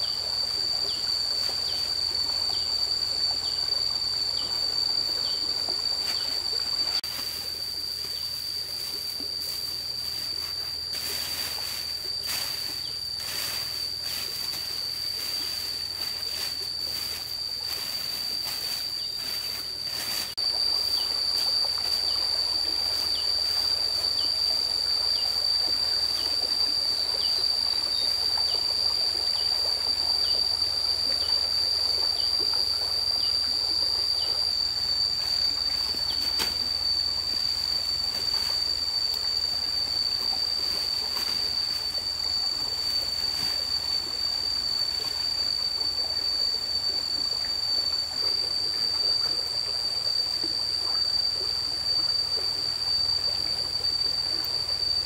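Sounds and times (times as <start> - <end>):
soft steady hiss: 0.0 - 55.0.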